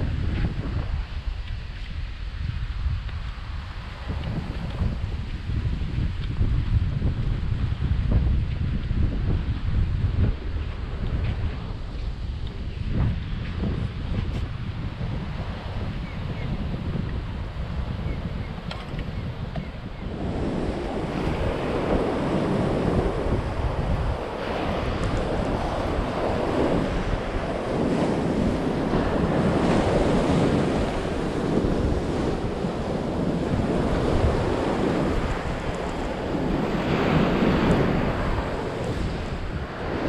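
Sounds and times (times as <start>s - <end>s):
ocean surf washing on beach: 0.0s - 40.0s
wind rumbling on microphone: 0.0s - 40.0s.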